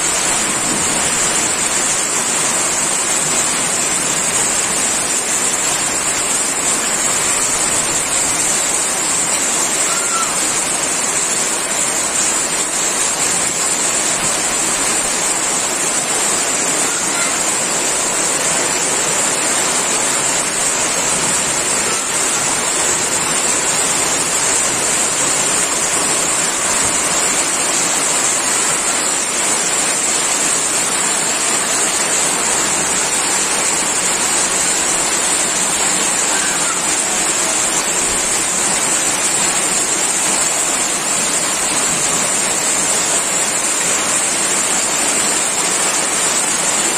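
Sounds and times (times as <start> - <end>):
heavy rain on metal roofs: 0.0 - 46.9.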